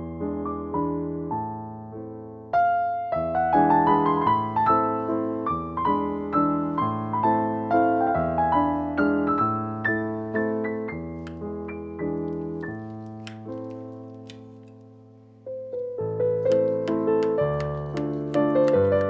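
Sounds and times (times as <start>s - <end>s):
gentle solo piano music: 0.0s - 19.0s.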